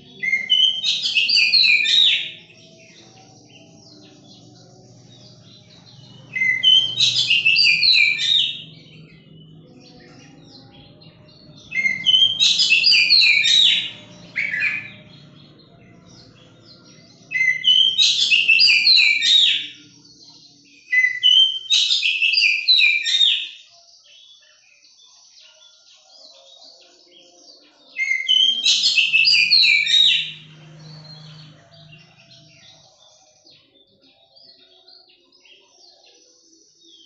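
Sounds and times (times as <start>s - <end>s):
bird singing: 0.0s - 37.0s.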